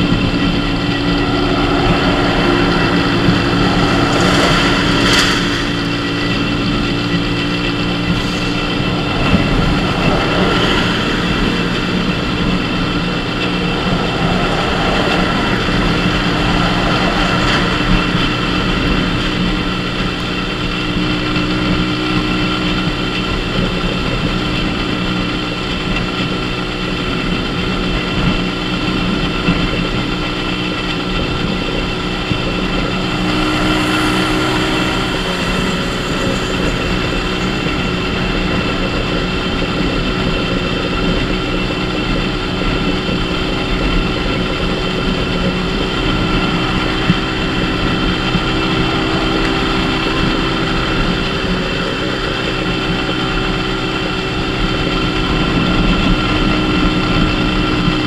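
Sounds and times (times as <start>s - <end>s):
small motorcycle engine running: 0.0s - 58.0s
wind on microphone: 0.0s - 58.0s.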